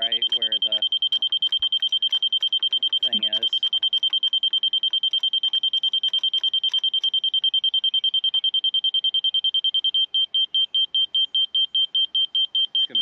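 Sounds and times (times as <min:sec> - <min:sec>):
high electronic beeps: 0:00.0 - 0:13.0.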